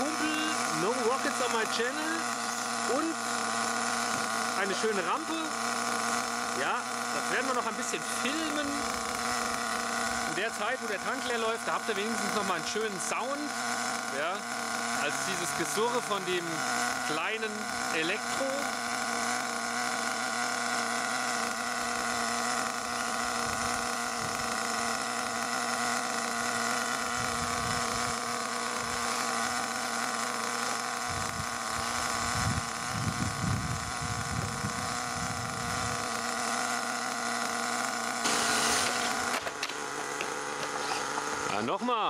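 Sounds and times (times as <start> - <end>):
model engine idling: 0.0 - 42.0.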